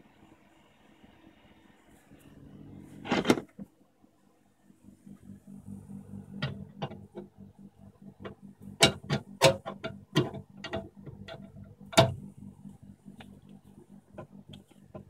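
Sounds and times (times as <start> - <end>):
compressor low hum: 0.0 - 3.6, 4.6 - 15.0.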